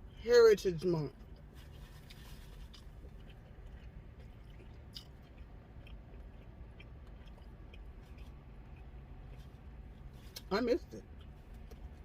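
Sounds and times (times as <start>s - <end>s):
person chewing crunchy food: 1.1s - 12.0s.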